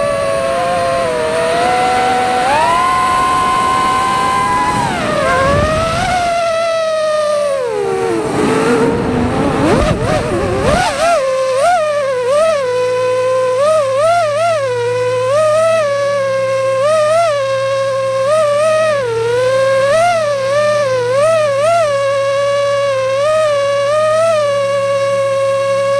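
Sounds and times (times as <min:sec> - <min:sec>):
drone propellers whining: 0:00.0 - 0:25.9.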